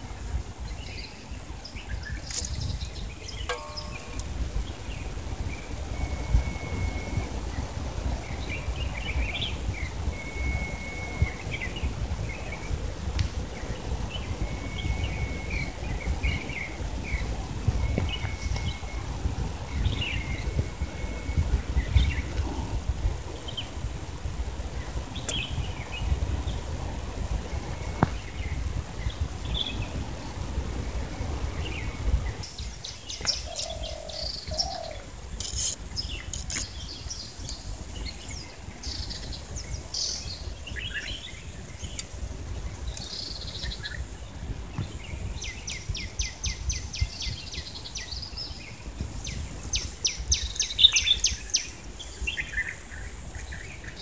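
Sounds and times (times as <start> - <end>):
small birds chirping: 0.5 - 23.8, 24.8 - 26.7, 31.6 - 54.0.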